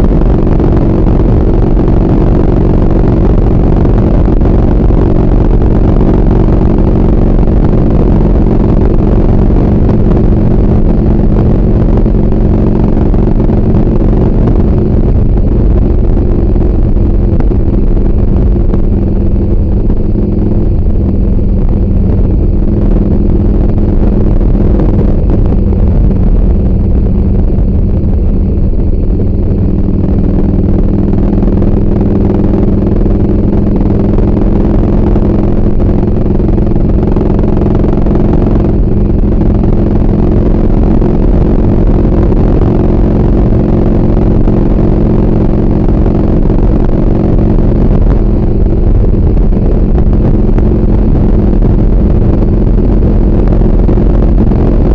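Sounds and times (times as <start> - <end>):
motorcycle engine droning: 0.0 - 54.9.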